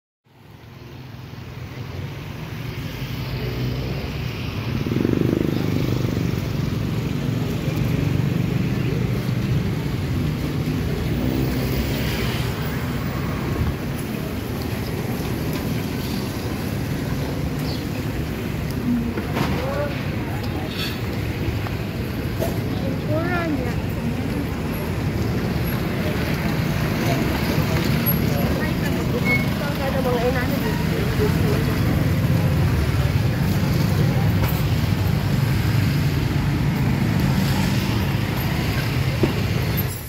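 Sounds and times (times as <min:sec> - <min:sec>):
street traffic noise: 0:00.2 - 0:40.0.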